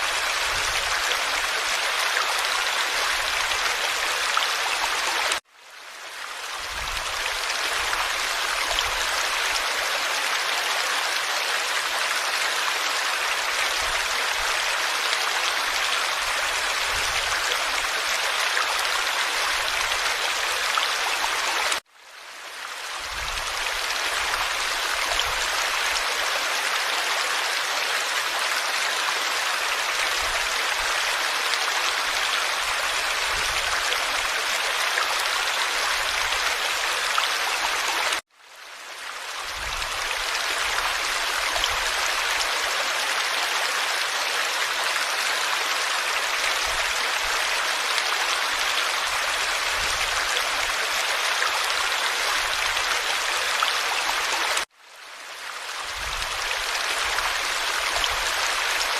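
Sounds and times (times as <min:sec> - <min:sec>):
stream babbling: 0:00.0 - 0:58.9.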